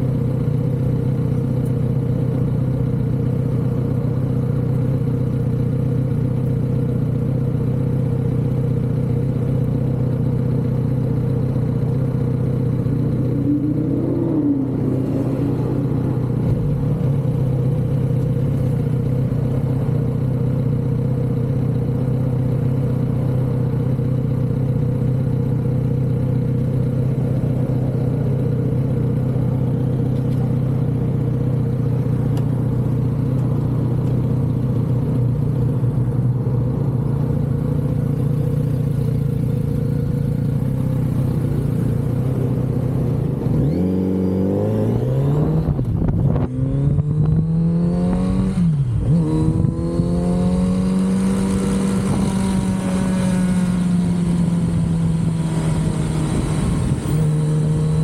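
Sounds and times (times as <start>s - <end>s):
motorcycle engine revving: 10.2s - 58.0s.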